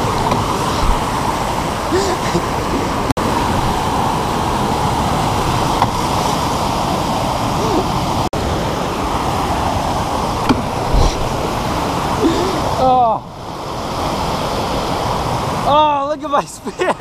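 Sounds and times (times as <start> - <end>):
water rushing over spillway: 0.0 - 17.0.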